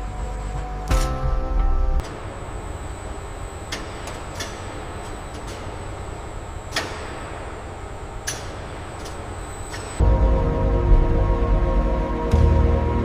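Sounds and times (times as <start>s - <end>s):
high steady whine: 0.0s - 13.0s
machinery rumble: 0.0s - 13.0s.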